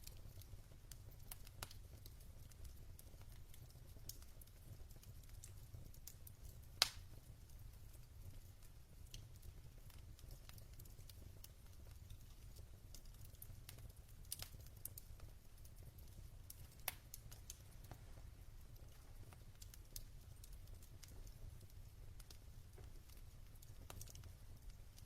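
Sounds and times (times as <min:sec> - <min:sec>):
logs crackling and popping in fire: 0:00.0 - 0:25.0
low rumble of fire: 0:00.0 - 0:25.0.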